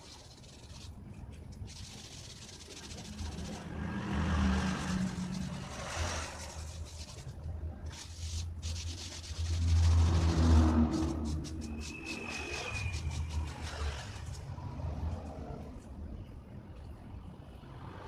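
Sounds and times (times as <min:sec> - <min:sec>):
hand rubbing paint on styrofoam: 0:00.0 - 0:15.3.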